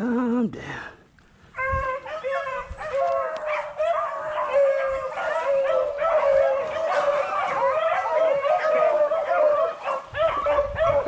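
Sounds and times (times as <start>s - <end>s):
pack of hounds baying: 1.6s - 11.0s.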